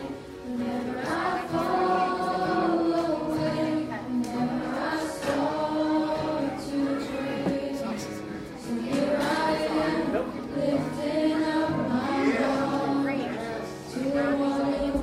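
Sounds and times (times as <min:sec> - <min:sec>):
voices singing a hymn: 0:00.0 - 0:15.0.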